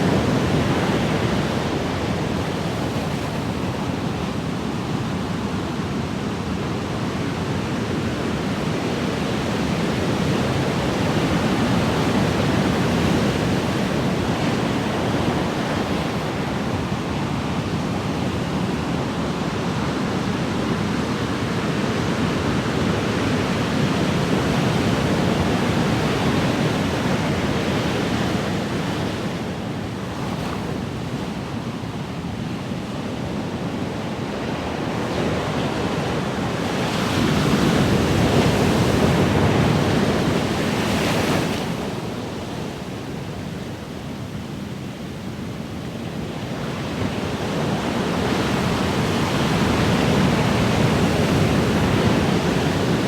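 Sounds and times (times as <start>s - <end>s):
ocean surf washing: 0.0s - 53.0s.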